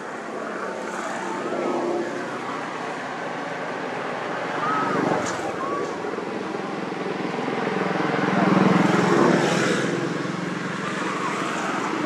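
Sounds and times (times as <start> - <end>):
passing vehicle engine: 0.0 - 12.0.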